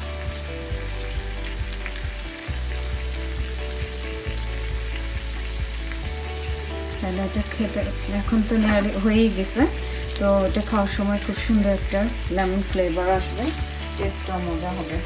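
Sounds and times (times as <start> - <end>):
background music with steady beat: 0.0 - 15.0
chicken sizzling in oil: 0.0 - 15.0.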